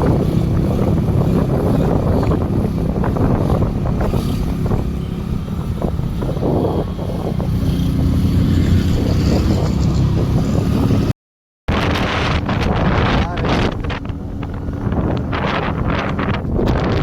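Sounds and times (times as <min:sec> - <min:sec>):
wind buffeting microphone: 0:00.0 - 0:11.1, 0:11.7 - 0:17.0
engine and road rumble: 0:00.0 - 0:17.0.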